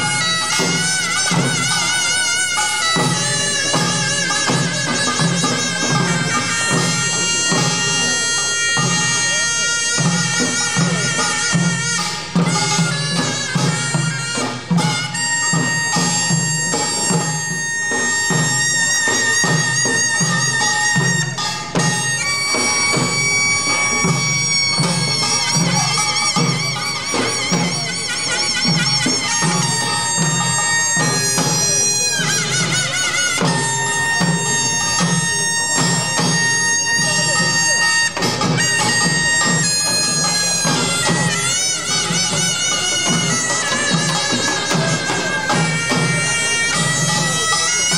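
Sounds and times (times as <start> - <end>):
clanging small brass gongs: 0.0 - 47.9
drums beating steady rhythm: 0.0 - 47.9
piercing shawm melody: 0.0 - 47.9.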